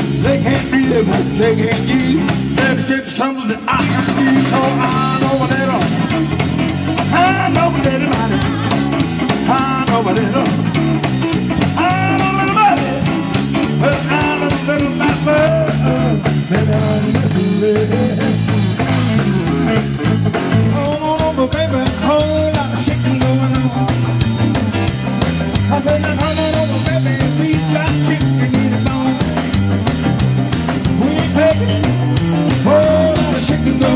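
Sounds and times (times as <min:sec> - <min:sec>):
drum kit: 0:00.0 - 0:33.9
electric bass: 0:00.0 - 0:33.9
keyboard: 0:00.0 - 0:33.9.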